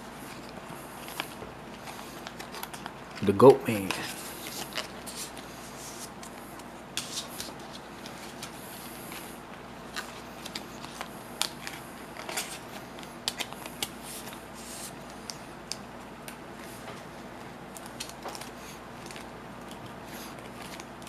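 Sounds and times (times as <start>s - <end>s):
cards and plastic sleeves rustling: 0.2s - 21.0s.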